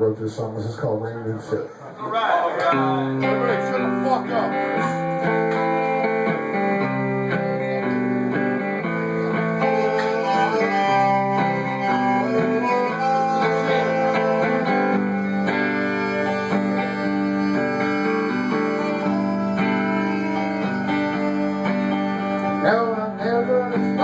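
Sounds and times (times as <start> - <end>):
guitar playing slow country: 2.6 - 24.0.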